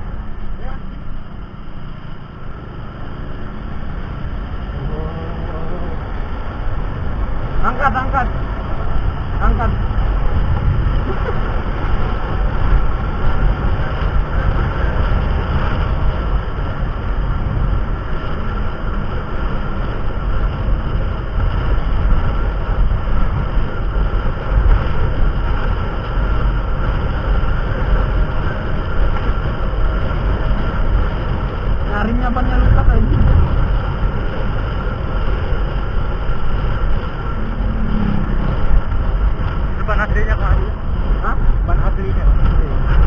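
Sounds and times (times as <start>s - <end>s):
road rumble inside car: 0.0s - 43.0s
tyre hum on asphalt: 0.0s - 43.0s.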